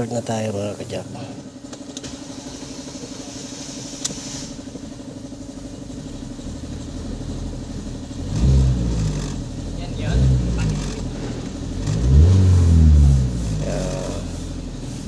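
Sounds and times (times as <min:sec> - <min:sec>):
engine running with low rumble: 0:00.0 - 0:15.0
car engine cranking on starter: 0:01.4 - 0:14.9.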